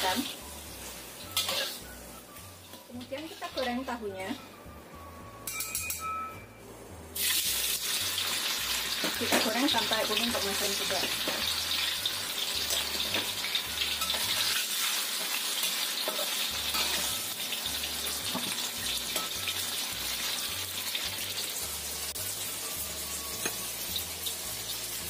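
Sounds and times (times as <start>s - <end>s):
tofu sizzling in hot oil: 0.0s - 4.0s, 7.2s - 25.0s.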